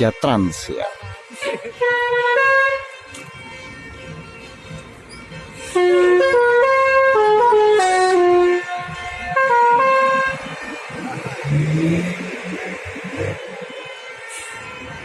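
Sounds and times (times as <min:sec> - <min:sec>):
multi-tone bus horn tune: 0:00.0 - 0:15.0.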